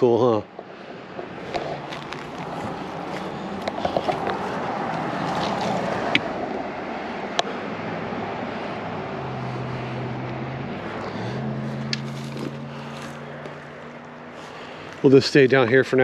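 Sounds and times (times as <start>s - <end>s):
engine hum: 0.0s - 16.0s
tyre noise of passing cars: 0.0s - 16.0s.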